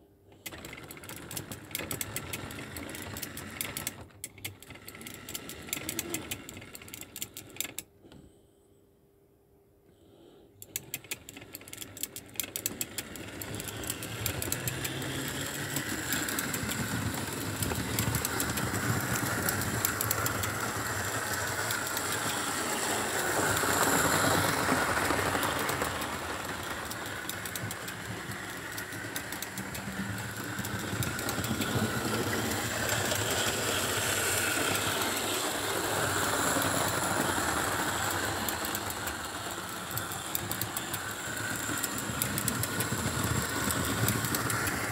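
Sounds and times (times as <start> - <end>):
model train clicks: 0.3 - 7.9, 10.6 - 44.9
model train rumbling on track: 0.4 - 7.8, 10.6 - 44.9.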